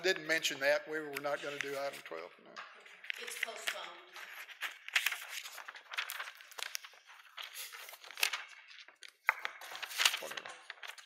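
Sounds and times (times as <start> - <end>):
paper rustling: 0.1 - 11.0.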